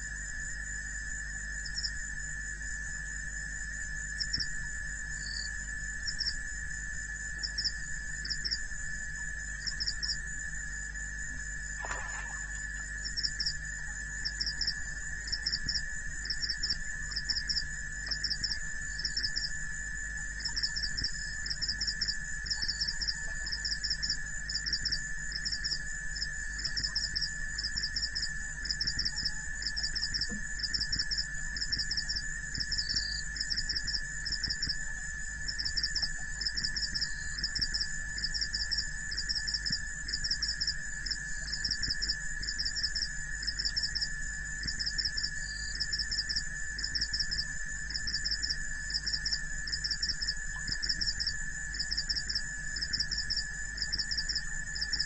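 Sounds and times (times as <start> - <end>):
cricket chirping: 0.0 - 55.0
insects high trill: 0.0 - 55.0.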